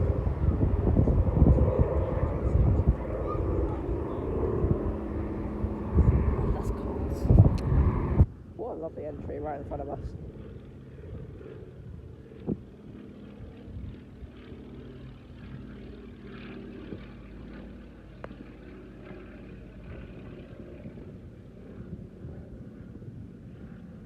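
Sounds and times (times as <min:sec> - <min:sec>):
aircraft engine droning in flight: 0:00.0 - 0:24.0.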